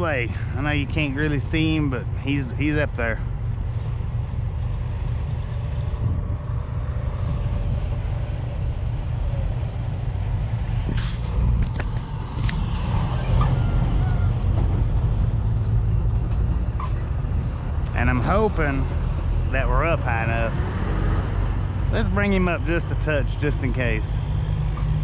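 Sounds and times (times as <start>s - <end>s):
semi truck driving past: 0.0s - 25.0s.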